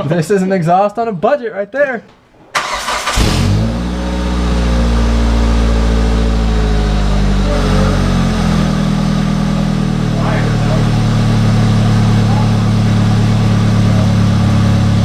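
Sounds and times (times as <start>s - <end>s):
car engine starting and idling: 2.6s - 15.0s.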